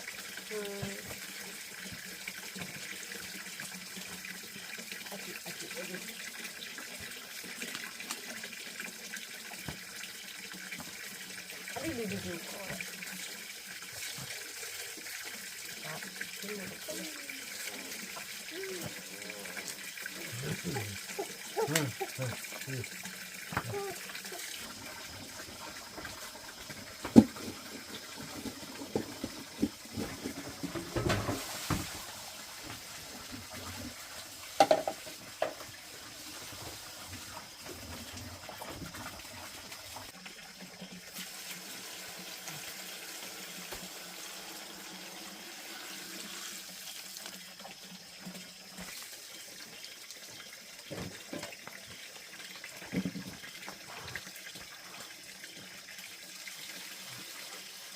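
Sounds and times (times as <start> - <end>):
water flowing steadily: 0.0 - 57.9.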